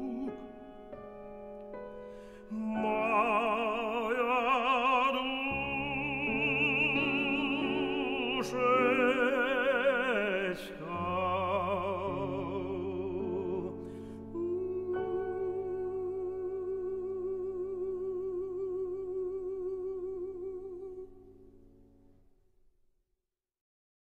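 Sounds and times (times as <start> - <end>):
man singing with vibrato: 0.0 - 0.8, 2.4 - 21.3
piano chords: 0.0 - 22.2.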